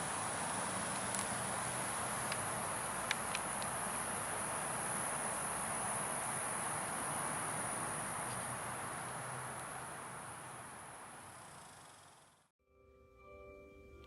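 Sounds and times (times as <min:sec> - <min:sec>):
crickets trilling: 0:00.0 - 0:12.5
soft outdoor hiss: 0:00.0 - 0:14.0.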